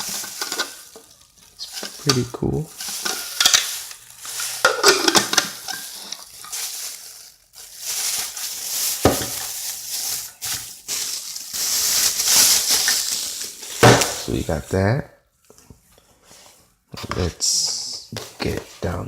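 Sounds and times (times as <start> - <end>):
crinkly packaging rustling: 0.0 - 14.8, 18.1 - 19.0.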